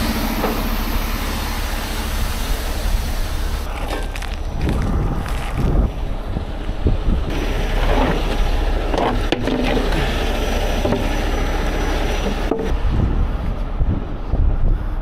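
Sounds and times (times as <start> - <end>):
diesel truck engine running: 0.0 - 14.9.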